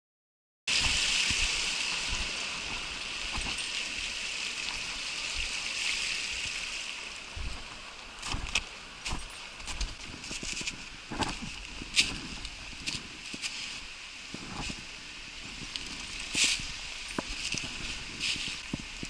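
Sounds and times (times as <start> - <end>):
stream rushing over rocks: 0.7 - 19.0.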